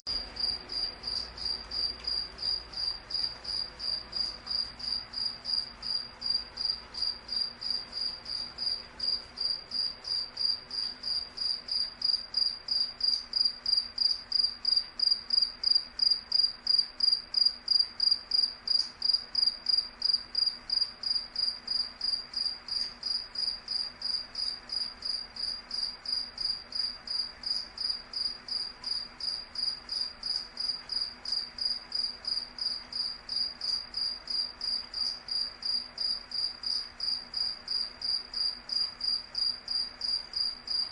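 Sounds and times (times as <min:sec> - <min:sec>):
cricket chirping: 0:00.1 - 0:40.9.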